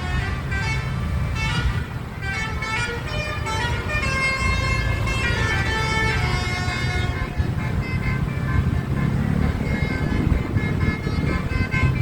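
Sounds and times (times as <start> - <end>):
bus musical horn tune: 0.0 - 12.0
low engine rumble: 0.0 - 12.0.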